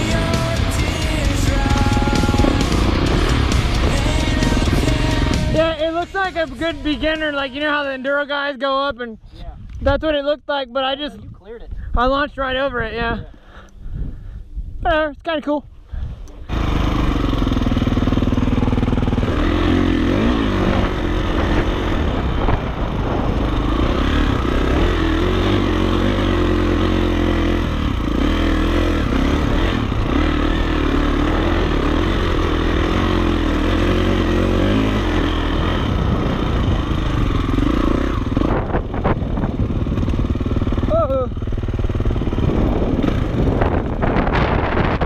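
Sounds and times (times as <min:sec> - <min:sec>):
dirt bike engine revving: 0:00.0 - 0:07.7, 0:16.4 - 0:45.0.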